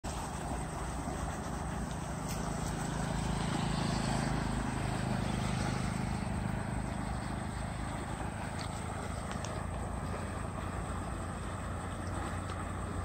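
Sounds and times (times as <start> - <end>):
water rushing from a pipe: 0.0 - 13.0.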